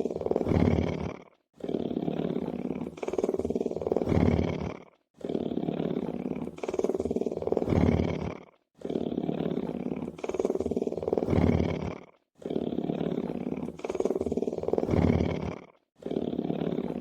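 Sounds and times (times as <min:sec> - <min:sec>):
lion purring: 0:00.0 - 0:17.0.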